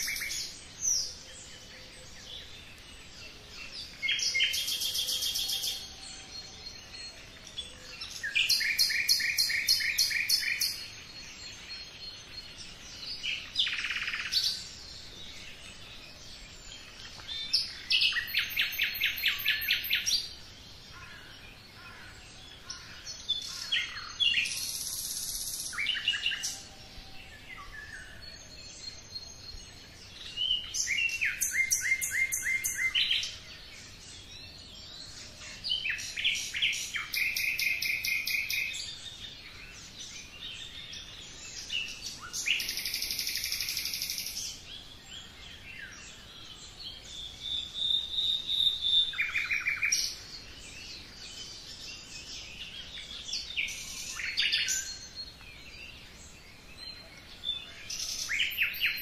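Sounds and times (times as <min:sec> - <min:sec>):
quiet bird chirps: 0:00.0 - 0:59.0
songbirds singing: 0:00.0 - 0:59.0.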